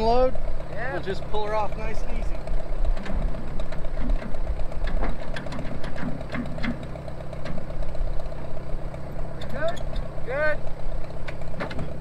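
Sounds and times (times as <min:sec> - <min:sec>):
engine idling with ticking: 0:00.0 - 0:12.0.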